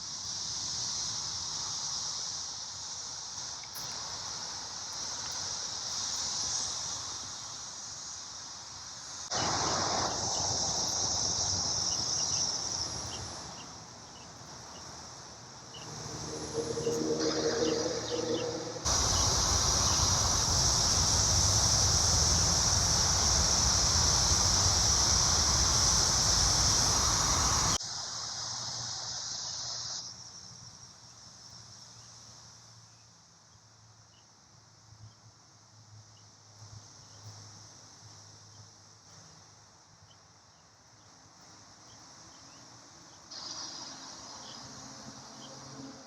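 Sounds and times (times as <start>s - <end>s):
cicadas droning buzz: 0.0s - 46.0s.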